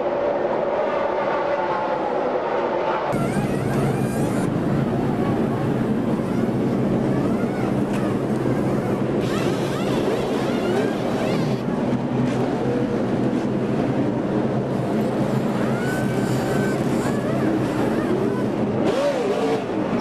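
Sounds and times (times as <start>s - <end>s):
race truck engines passing: 0.0s - 20.0s.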